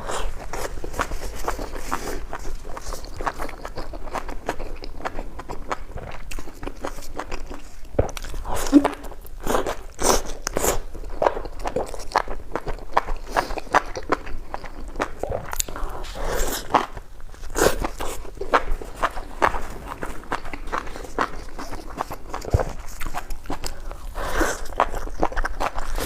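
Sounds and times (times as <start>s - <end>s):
chewing crunchy food: 0.0s - 26.0s.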